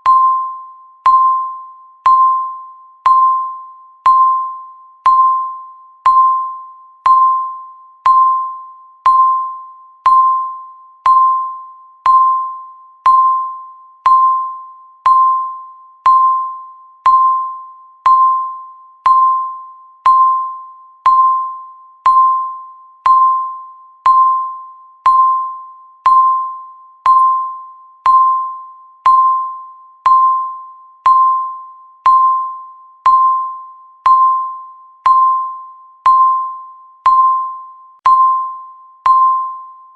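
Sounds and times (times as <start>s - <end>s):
timer ticking ping: 0.0s - 39.9s.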